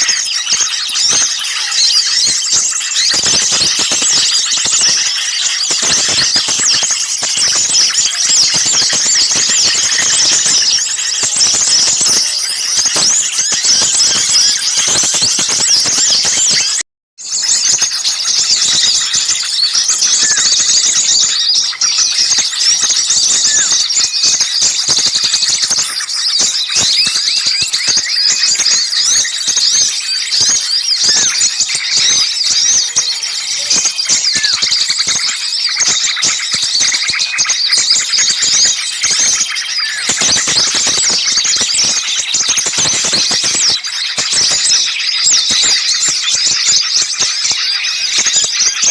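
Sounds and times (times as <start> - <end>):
songbirds chattering and calling: 0.0 - 48.9.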